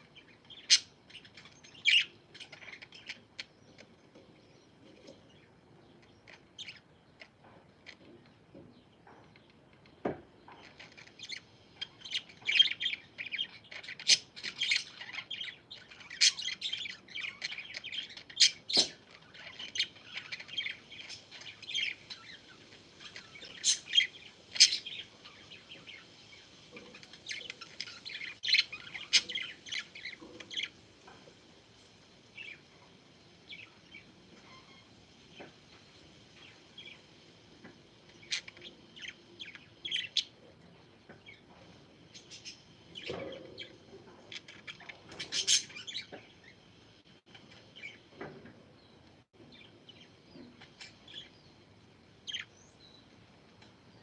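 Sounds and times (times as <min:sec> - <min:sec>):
parakeets chirping: 0:00.0 - 0:08.1, 0:09.3 - 0:31.2, 0:32.3 - 0:37.1, 0:38.0 - 0:46.7, 0:47.3 - 0:48.1, 0:49.5 - 0:53.2.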